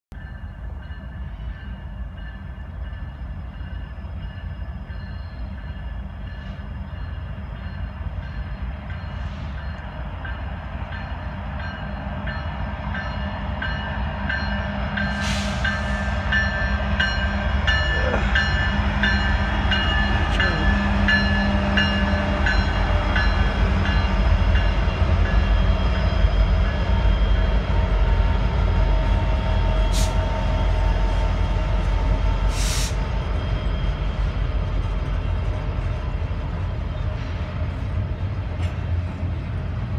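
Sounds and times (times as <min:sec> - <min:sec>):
diesel locomotive rumble: 0:00.1 - 0:39.9.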